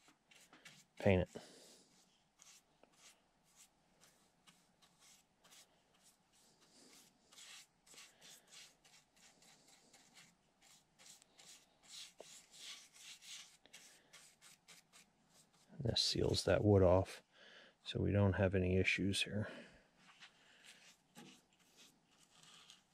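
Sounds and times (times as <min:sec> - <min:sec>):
brush scratching on wood: 0:00.0 - 0:16.4, 0:20.6 - 0:22.9.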